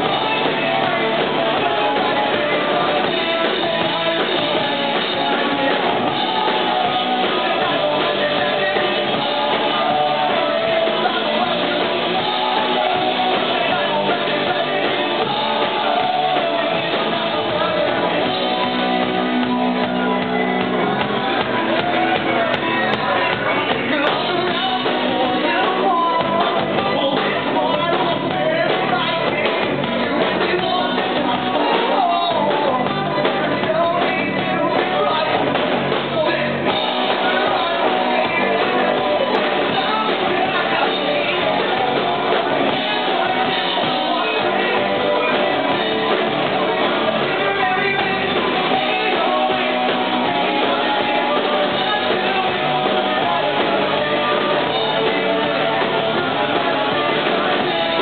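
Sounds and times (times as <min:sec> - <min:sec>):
bass guitar: 0:00.0 - 0:58.0
distorted electric guitars: 0:00.0 - 0:58.0
drum kit: 0:00.0 - 0:58.0
person singing: 0:00.0 - 0:58.0.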